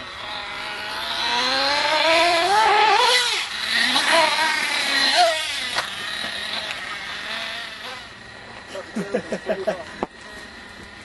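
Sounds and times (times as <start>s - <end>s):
toy buggy engine revving: 0.0s - 9.5s.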